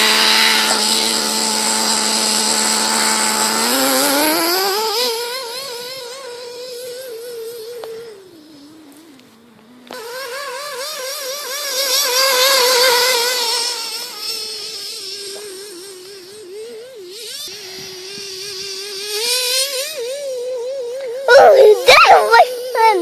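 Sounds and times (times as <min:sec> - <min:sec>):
toy car motor whining: 0:00.0 - 0:09.1, 0:09.9 - 0:23.0.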